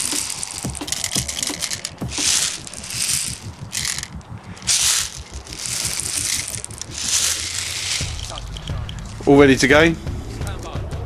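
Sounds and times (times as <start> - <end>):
plastic pellets rattling into magazine: 0.0 - 9.3.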